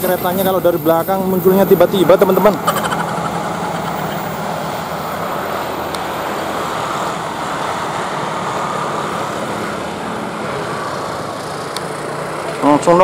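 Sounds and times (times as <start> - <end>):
train rumbling on rails: 0.0 - 12.4.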